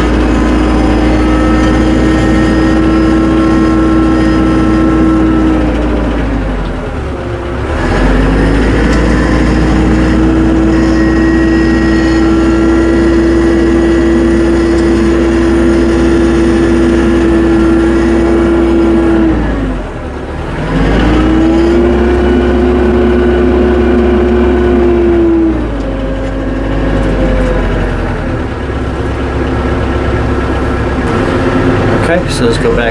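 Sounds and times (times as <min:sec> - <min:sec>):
tractor engine revving: 0:00.0 - 0:32.9.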